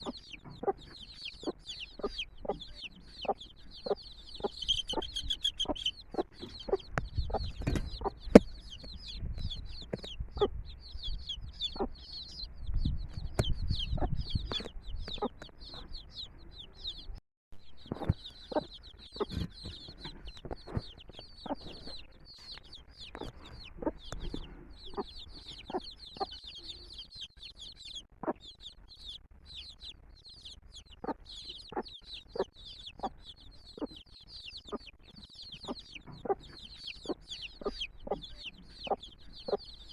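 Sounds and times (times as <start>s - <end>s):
hen clucking: 0.0s - 17.1s, 17.8s - 39.9s
chicks peeping: 0.0s - 39.9s.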